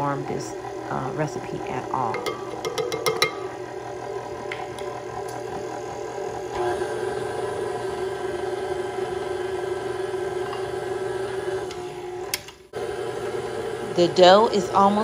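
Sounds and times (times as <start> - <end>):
stand mixer motor humming: 0.0 - 15.0.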